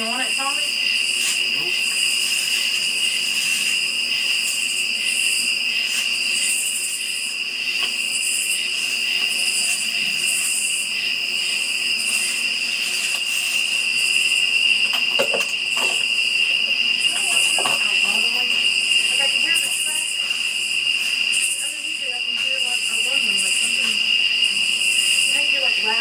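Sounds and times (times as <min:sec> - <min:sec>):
insect chorus pulsing: 0:00.0 - 0:26.0
insects high trill: 0:00.0 - 0:26.0.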